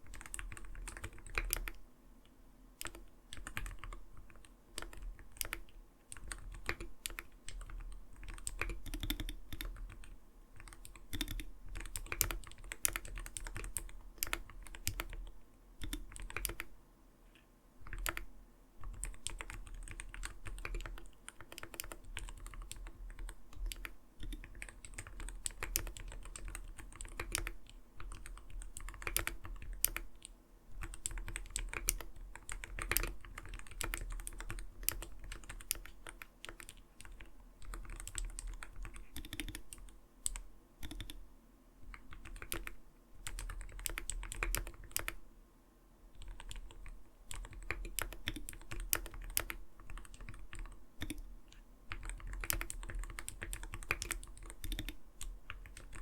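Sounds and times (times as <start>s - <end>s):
mechanical keyboard typing: 0.0s - 1.8s, 2.8s - 16.7s, 17.8s - 41.2s, 41.8s - 45.2s, 46.2s - 56.0s.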